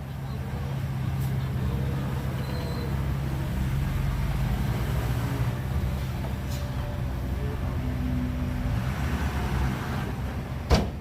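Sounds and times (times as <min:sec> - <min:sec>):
heavy diesel engine droning: 0:00.0 - 0:11.0.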